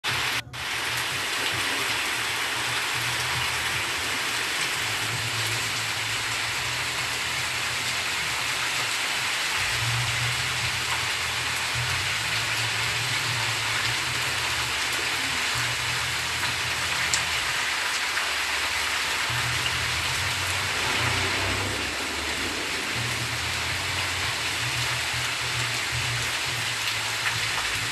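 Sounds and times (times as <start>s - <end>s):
heavy rain on leaves and pavement: 0.0s - 27.9s.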